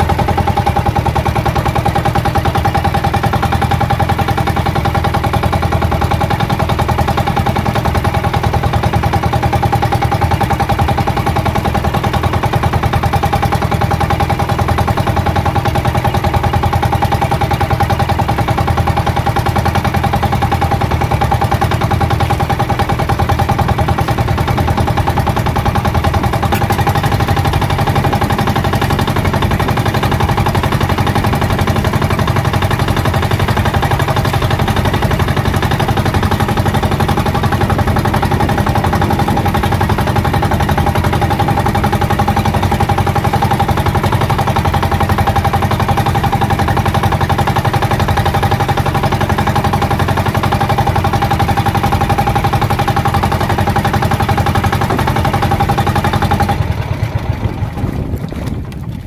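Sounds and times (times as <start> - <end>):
boat engine puttering: 0.0 - 59.0.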